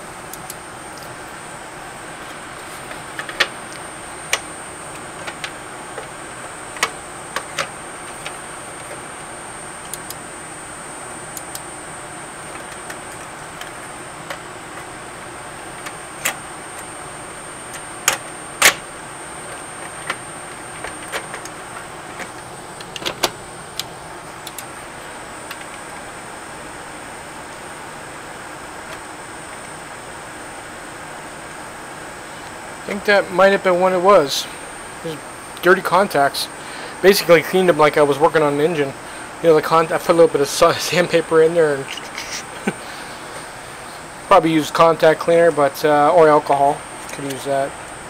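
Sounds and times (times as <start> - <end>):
steady hiss: 0.0 - 48.0
thin high whine: 0.0 - 48.0.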